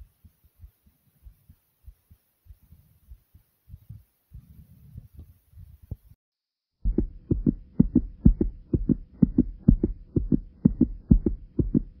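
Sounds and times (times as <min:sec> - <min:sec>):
faint steady hum: 0:00.0 - 0:06.2, 0:06.8 - 0:12.0
heartbeat thumps: 0:00.0 - 0:06.2, 0:06.8 - 0:12.0.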